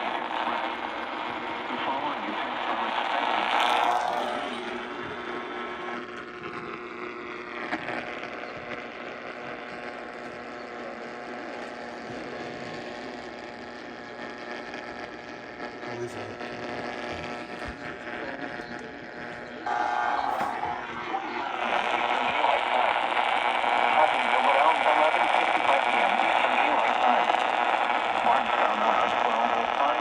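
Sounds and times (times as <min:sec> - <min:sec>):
faint steady tones: 0:00.0 - 0:30.0
low electrical hum: 0:00.0 - 0:30.0.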